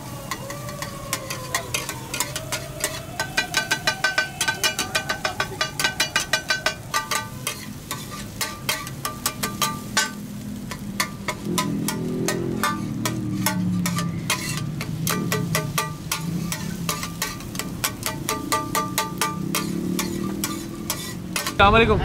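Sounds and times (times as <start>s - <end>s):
metal spatulas clanking on griddle: 0.3s - 21.7s.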